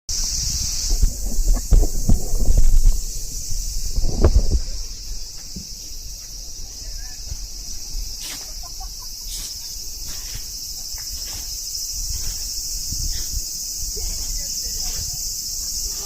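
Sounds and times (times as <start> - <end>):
insects buzzing: 0.1 - 16.0.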